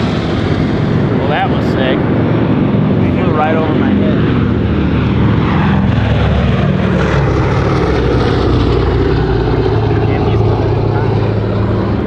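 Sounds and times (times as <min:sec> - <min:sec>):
propeller plane droning past: 0:00.0 - 0:12.0.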